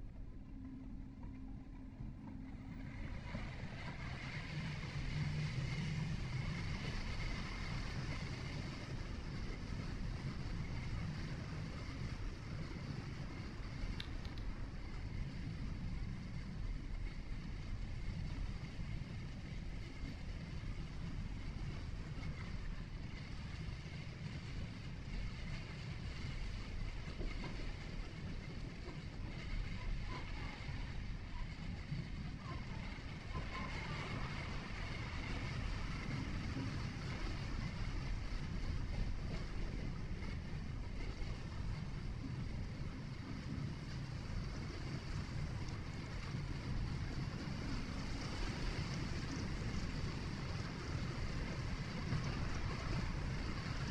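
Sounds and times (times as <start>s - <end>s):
vehicle engine and tyre rumble: 0.0s - 53.9s.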